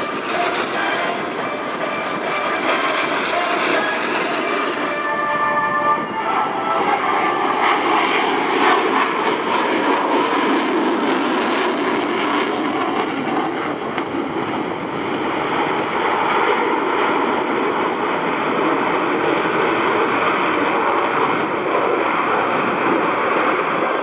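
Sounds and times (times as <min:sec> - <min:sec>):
jet engine rushing: 0:00.0 - 0:24.0.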